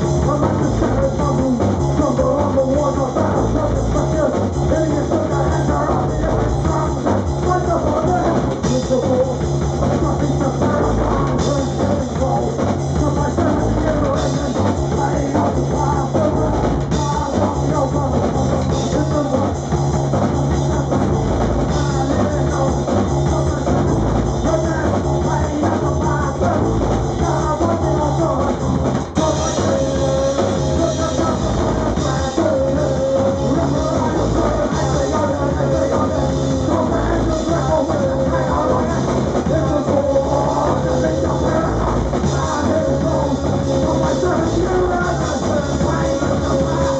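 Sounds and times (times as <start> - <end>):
drum kit: 0.0 - 46.9
electric guitar: 0.0 - 46.9
person singing: 0.0 - 46.9.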